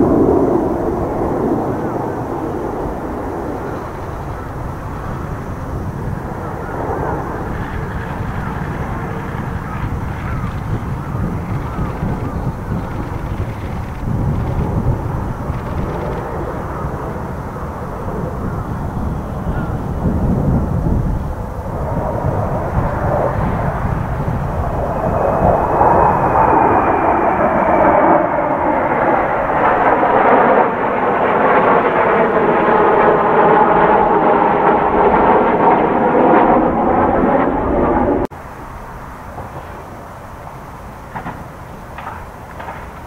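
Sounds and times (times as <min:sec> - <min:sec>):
distant jet rumble: 0:00.0 - 0:43.0
jet aircraft flying past: 0:00.0 - 0:43.0.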